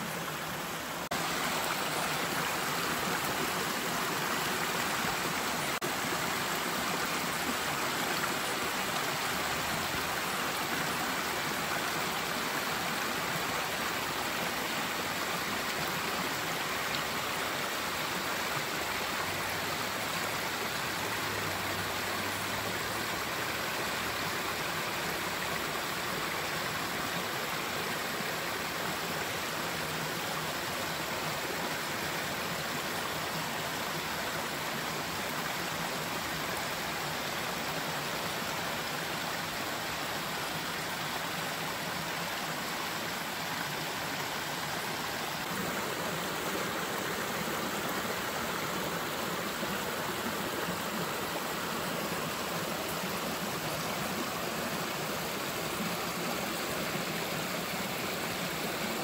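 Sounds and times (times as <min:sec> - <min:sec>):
brook running over stones: 0:00.0 - 0:59.0.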